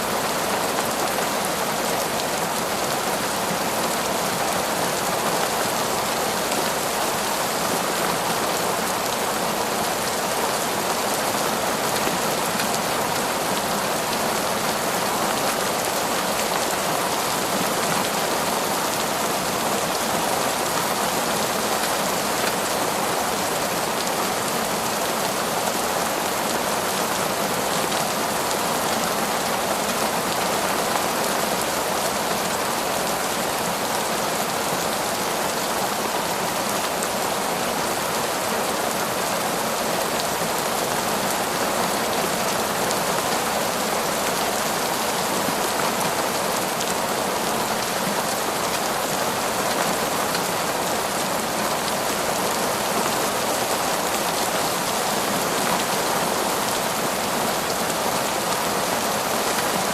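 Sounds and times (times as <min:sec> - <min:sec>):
heavy rain on foliage: 0:00.0 - 0:59.9.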